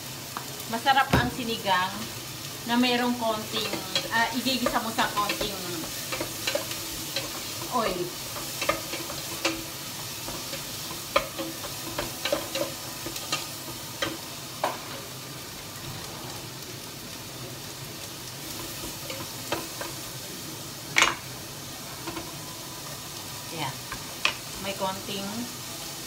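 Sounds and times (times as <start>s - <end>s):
food sizzling in oil: 0.0s - 26.0s.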